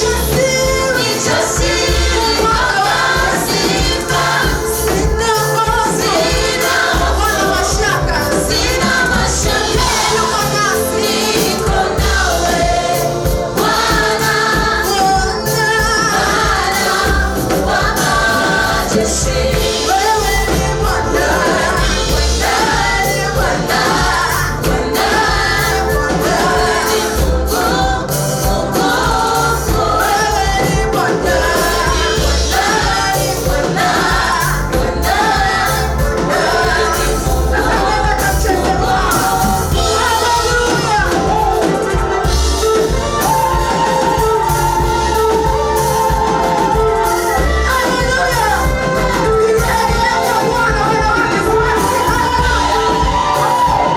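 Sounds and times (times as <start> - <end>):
gospel choir singing: 0.0 - 53.9
instrumental accompaniment: 0.0 - 53.9.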